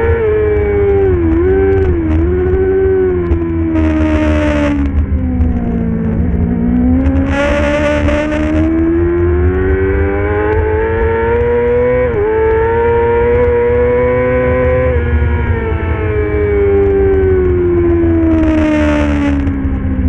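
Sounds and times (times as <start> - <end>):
racing motorcycle engine accelerating: 0.0 - 20.0.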